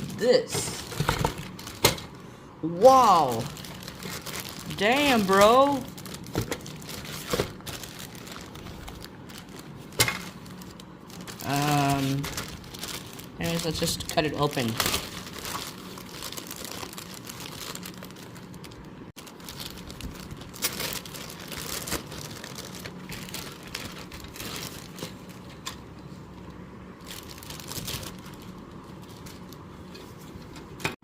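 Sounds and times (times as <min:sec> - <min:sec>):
packaging crinkling and rustling: 0:00.0 - 0:31.0.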